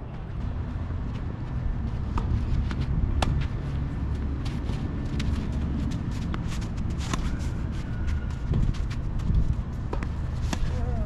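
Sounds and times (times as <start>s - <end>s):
steady low rumble: 0.0s - 11.0s
footsteps and shoe scuffs on court: 0.1s - 10.9s.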